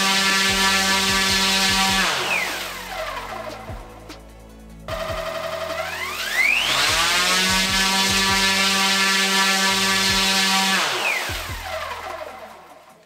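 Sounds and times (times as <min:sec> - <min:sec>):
electric motor whine: 0:00.0 - 0:12.7.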